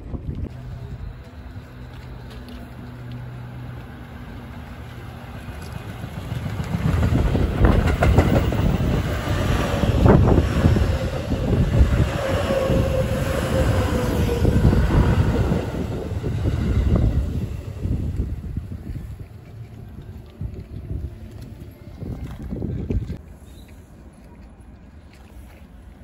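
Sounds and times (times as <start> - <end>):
steady train whine: 0.3 - 22.8
electric train rumbling past: 0.4 - 22.8.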